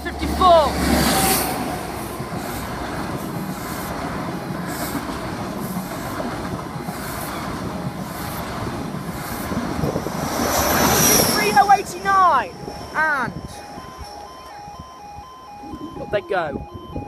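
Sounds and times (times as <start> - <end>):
train wheels rushing on rail: 0.0 - 13.8.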